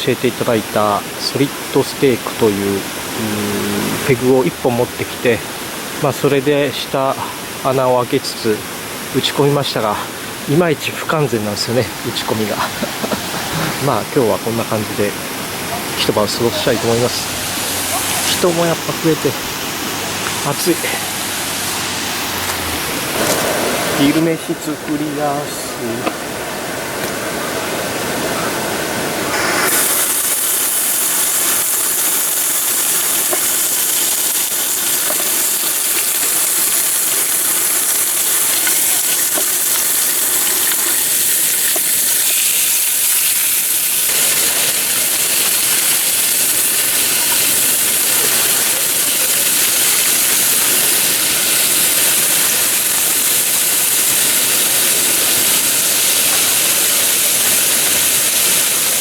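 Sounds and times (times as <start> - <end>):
camp stove hissing: 9.7 - 14.6, 15.2 - 28.1, 29.2 - 59.0.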